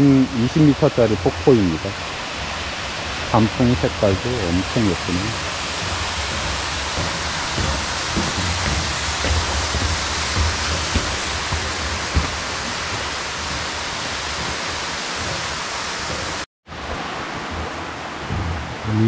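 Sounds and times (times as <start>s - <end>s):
low thumps: 0.0s - 19.0s
waterfall rushing: 0.0s - 19.0s.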